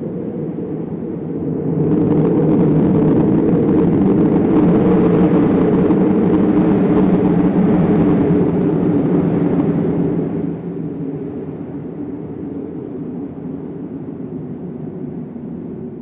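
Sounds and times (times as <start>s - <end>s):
deep rushing wind rumble: 0.0s - 16.0s.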